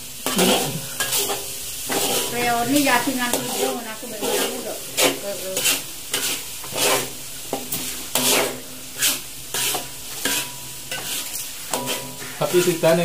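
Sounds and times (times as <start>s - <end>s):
spatula scraping wok: 0.0s - 13.0s
spice paste sizzling in oil: 0.0s - 13.0s.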